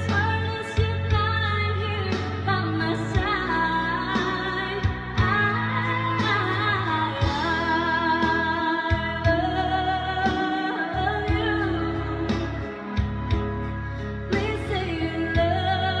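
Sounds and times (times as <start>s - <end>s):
instrumental backing: 0.0s - 16.0s
woman singing a love song: 0.0s - 16.0s.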